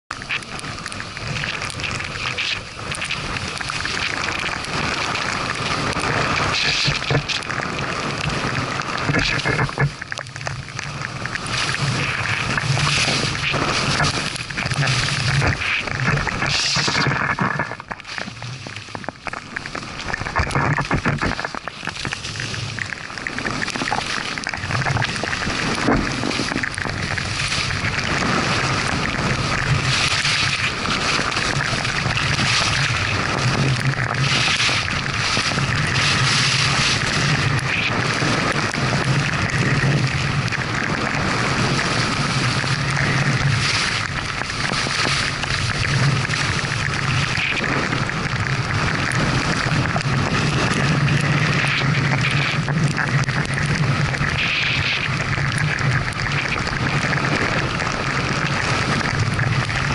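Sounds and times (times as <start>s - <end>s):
wind buffeting microphone: 0.2s - 59.9s.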